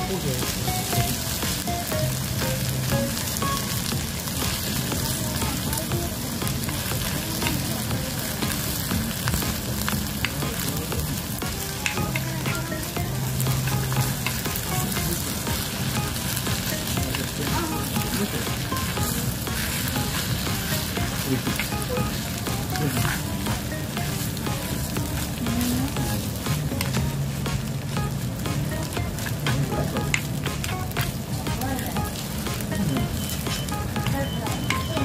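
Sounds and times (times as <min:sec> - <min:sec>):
food sizzling in hot stone bowl: 0:00.0 - 0:35.0.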